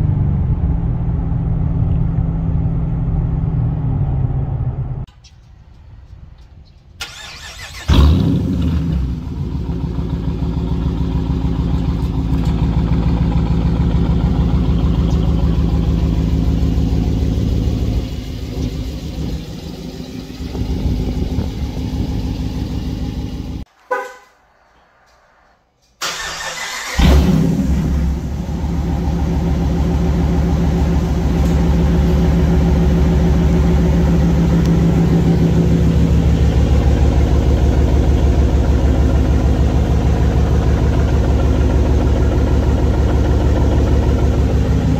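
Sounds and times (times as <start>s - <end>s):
car engine idling: 0.0s - 44.9s
car engine starting with flare: 0.0s - 44.9s.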